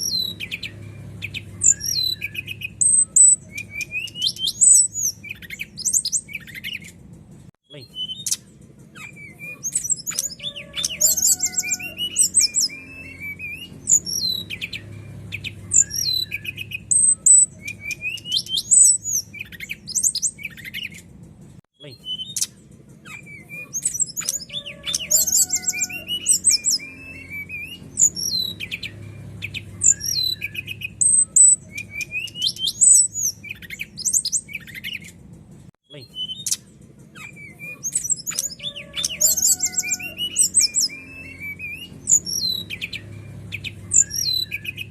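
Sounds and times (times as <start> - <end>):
bird singing: 0.0 - 7.0, 7.7 - 21.1, 21.8 - 35.2, 35.9 - 44.9.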